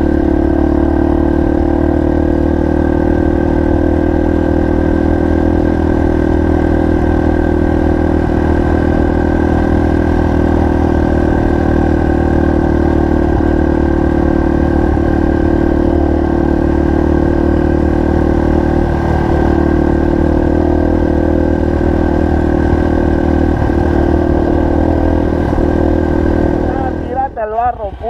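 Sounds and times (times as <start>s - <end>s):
motorcycle engine running steadily: 0.0s - 28.0s.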